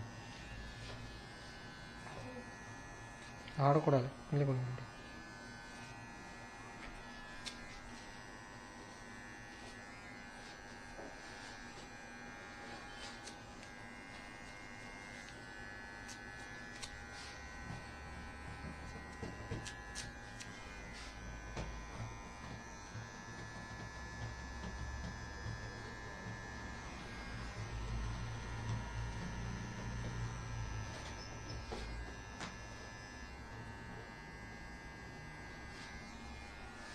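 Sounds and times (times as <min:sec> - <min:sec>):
electric hair clippers buzzing: 0:00.0 - 0:36.9.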